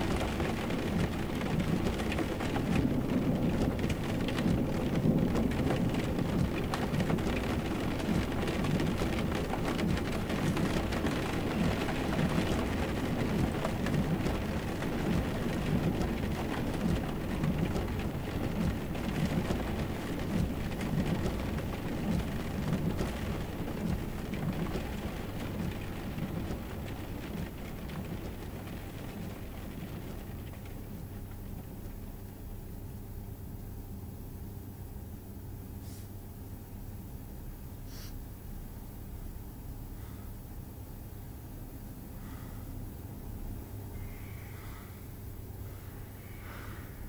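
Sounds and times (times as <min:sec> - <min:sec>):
low churning rumble: 0:00.0 - 0:47.0.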